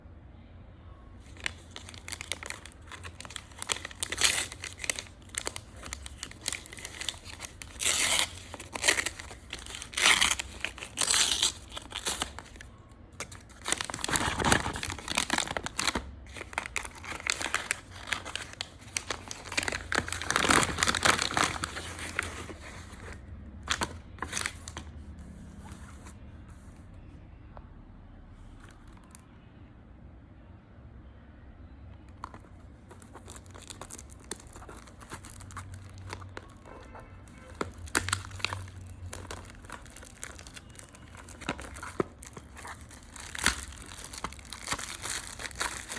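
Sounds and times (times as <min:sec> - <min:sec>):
packaging crinkling and tearing: 0:01.2 - 0:24.8, 0:32.1 - 0:45.9.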